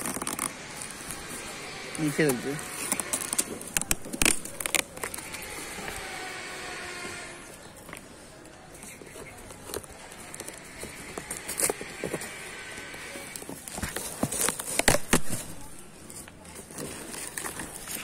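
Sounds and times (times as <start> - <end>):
cardboard carton crackling: 0.0 - 18.0.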